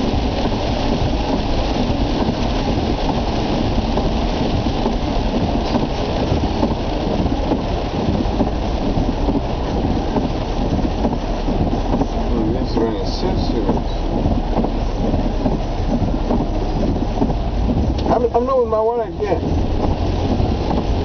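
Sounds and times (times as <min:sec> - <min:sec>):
low rumble inside a car in rain: 0:00.0 - 0:21.0.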